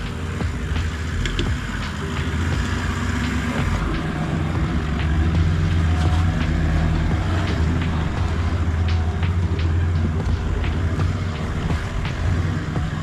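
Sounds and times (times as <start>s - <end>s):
engine labouring at low revs: 0.0s - 13.0s.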